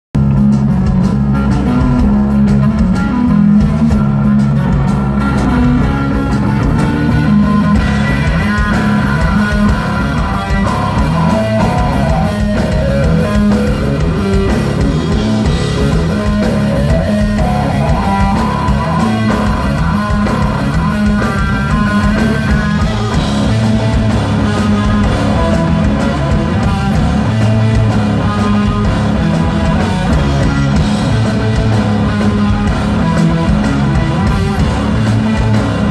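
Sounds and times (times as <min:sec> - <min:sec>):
bass guitar: 0:00.1 - 0:35.9
distorted electric guitar: 0:00.2 - 0:35.9
drum kit: 0:00.2 - 0:35.9.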